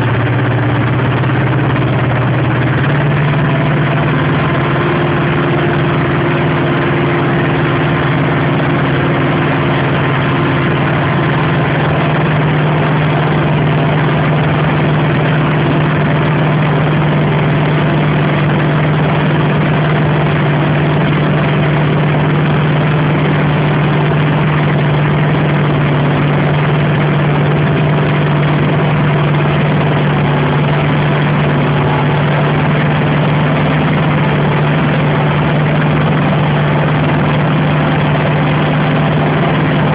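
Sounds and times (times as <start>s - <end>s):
forage harvester engine and chopping drone: 0.0s - 39.9s.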